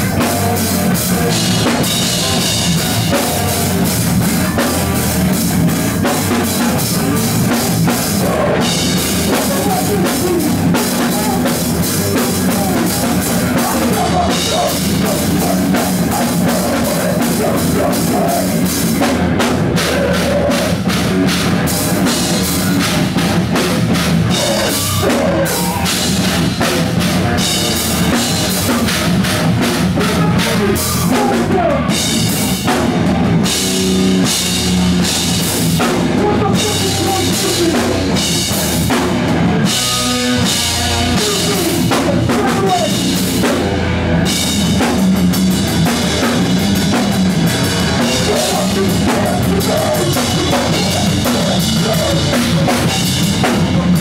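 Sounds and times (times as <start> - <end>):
bass drum and cymbals: 0.0 - 54.0
live rock band playing: 0.0 - 54.0.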